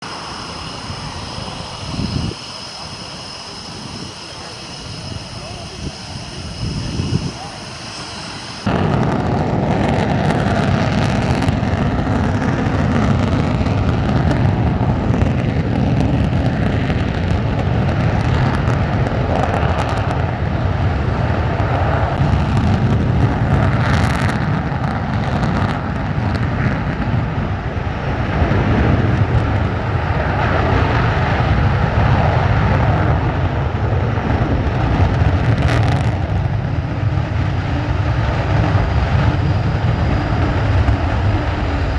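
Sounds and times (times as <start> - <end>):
jet engines roaring: 0.0 - 41.9
wind on microphone: 0.0 - 41.9.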